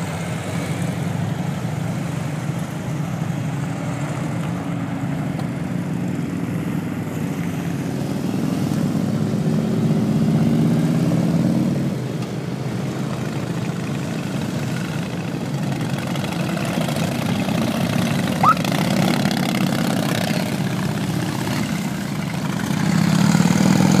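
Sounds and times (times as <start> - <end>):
motorcycles riding past: 0.0 - 24.0.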